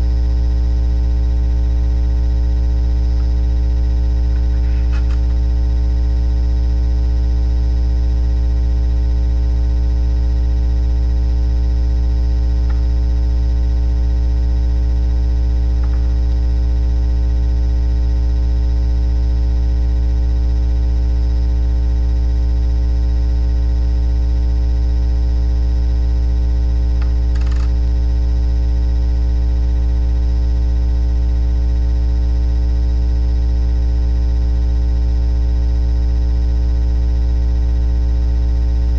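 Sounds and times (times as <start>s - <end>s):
buzzy electrical mains hum: 0.0s - 38.9s.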